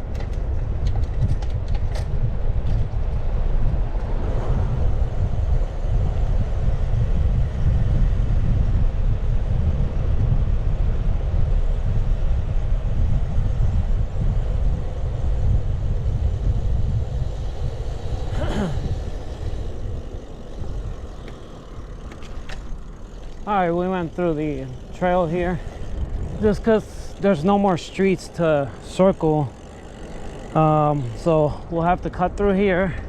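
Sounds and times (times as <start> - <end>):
bicycle tyre rumble: 0.0 - 33.0
wind buffeting microphone: 0.0 - 33.0.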